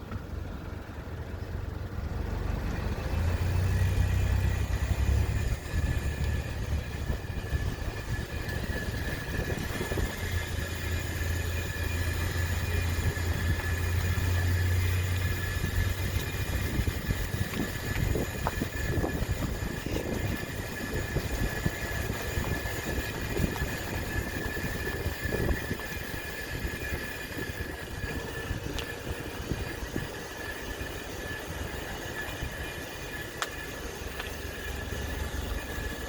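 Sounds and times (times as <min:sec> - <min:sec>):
high-pitched whine: 0:00.0 - 0:36.0
steady low rumble: 0:00.0 - 0:36.0.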